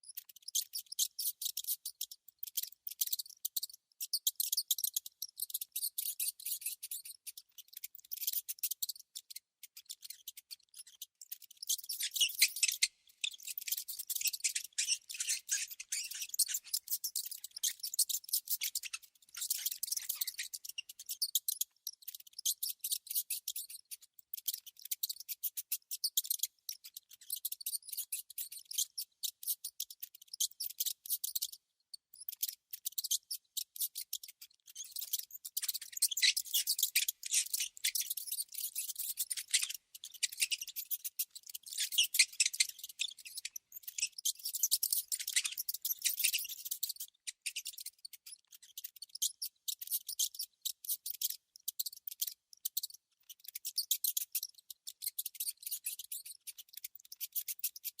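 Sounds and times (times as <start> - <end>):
rodents clicking and squeaking: 0.0 - 58.0.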